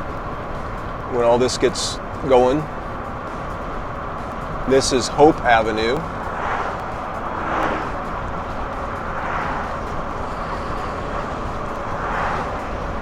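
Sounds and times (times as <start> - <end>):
car road noise inside cabin: 0.0 - 13.0.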